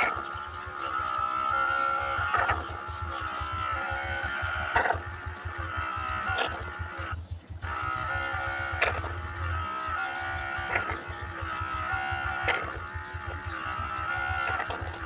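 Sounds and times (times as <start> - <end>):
pulsing bass: 0.0 - 15.0.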